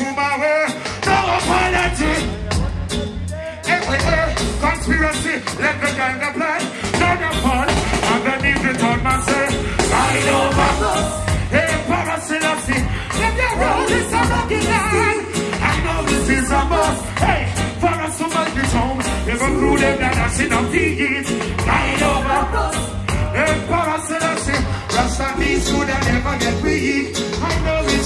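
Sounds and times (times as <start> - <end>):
live reggae band playing: 0.0 - 28.0
person singing: 0.0 - 28.0.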